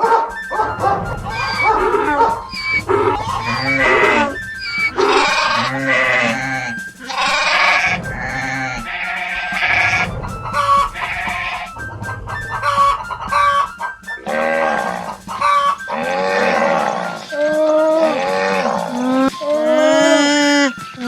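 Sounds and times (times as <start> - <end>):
animal calls: 0.0 - 21.0
background music: 0.0 - 21.0.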